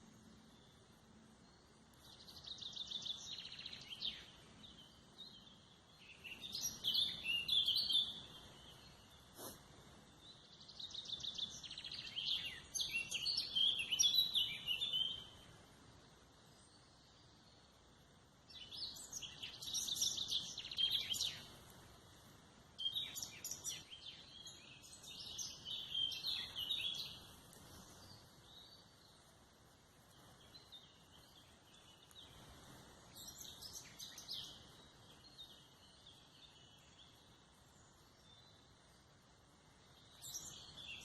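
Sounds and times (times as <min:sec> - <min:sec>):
faint outdoor hiss: 0:00.0 - 0:41.0
songbirds chirping: 0:00.0 - 0:41.0.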